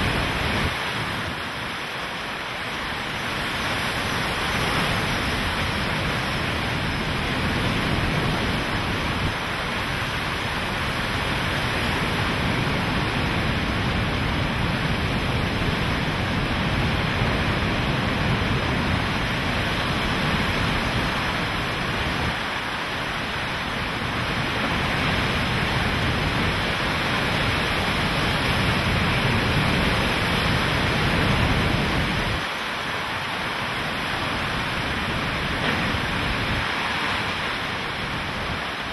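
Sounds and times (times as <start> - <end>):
driving rain: 0.0 - 38.9
strong wind: 0.0 - 38.9.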